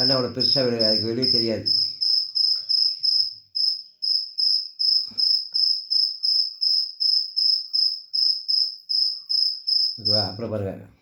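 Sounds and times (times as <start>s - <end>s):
cricket chirping: 0.0s - 10.5s.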